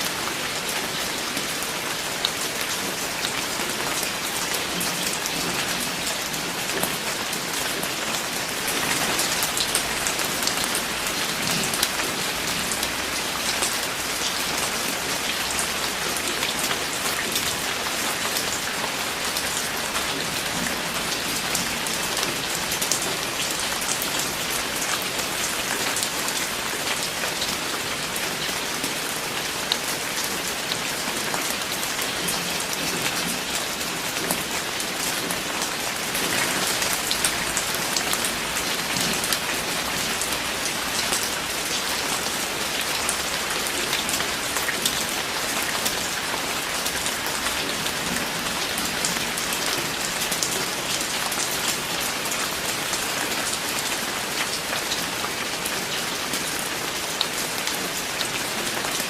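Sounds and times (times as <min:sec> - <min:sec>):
rain pattering on a surface: 0:00.0 - 0:59.0.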